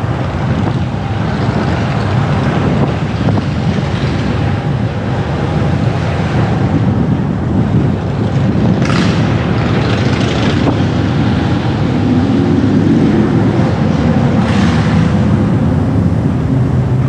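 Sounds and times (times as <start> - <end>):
car driving on street: 0.0 - 17.0.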